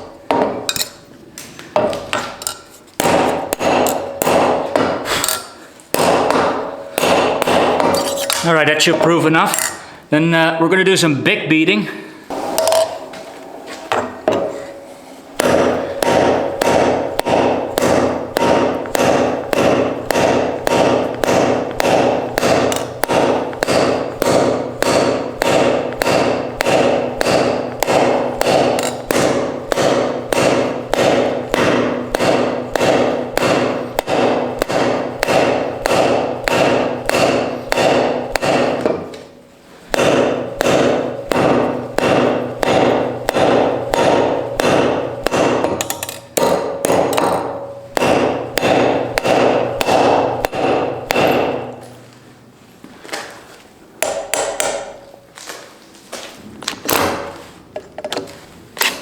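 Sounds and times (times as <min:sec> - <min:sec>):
hammer striking anvil: 0:01.8 - 0:09.8, 0:12.3 - 0:13.2, 0:13.9 - 0:52.1, 0:54.0 - 0:55.1.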